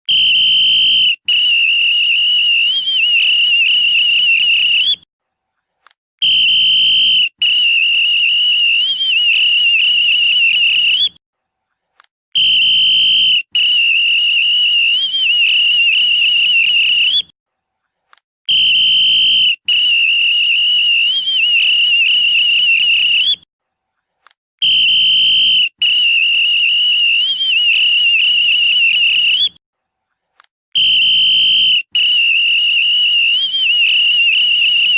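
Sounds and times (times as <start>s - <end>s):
police whistle blasts with trill: 0.0s - 5.1s, 6.2s - 11.2s, 12.4s - 17.3s, 18.5s - 23.5s, 24.6s - 29.6s, 30.8s - 34.9s.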